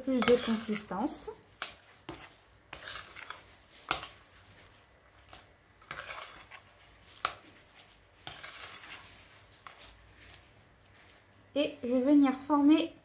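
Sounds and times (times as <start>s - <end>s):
utensil scraping dough in bowl: 0.0s - 12.0s.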